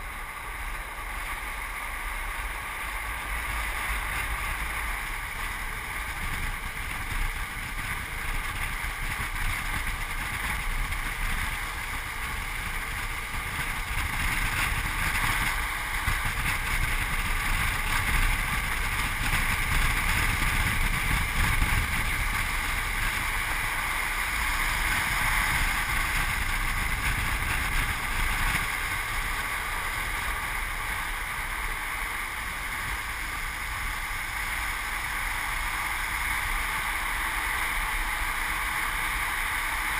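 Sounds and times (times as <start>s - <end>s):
longboard wheels rolling on asphalt: 0.0s - 39.9s
wind rushing over microphone: 2.4s - 39.9s.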